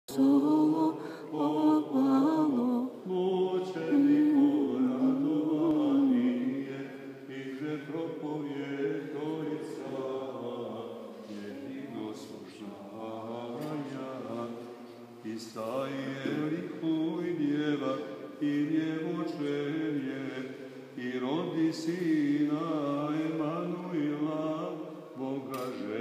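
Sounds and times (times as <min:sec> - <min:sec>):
voices chanting a hymn: 0:00.1 - 0:26.0.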